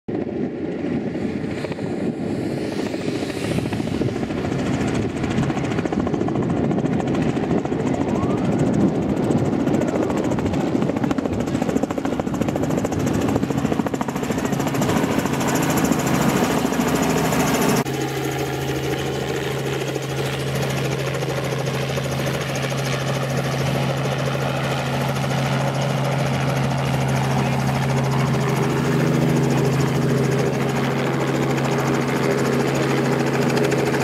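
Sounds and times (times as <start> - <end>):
helicopter rotor chop: 0.1 - 34.0.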